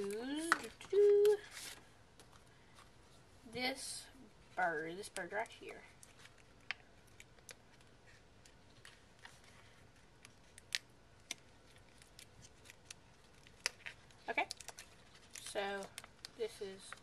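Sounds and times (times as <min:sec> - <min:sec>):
paper and plastic crinkling: 0:00.0 - 0:03.2, 0:05.0 - 0:17.0.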